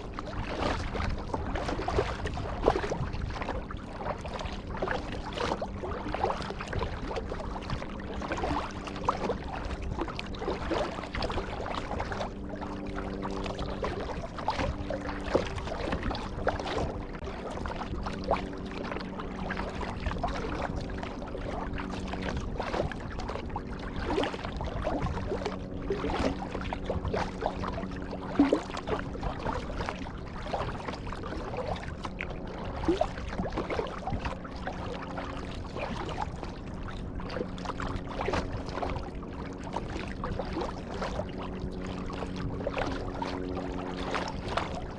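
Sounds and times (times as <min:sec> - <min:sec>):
paddle splashing into water: 0:00.1 - 0:44.9.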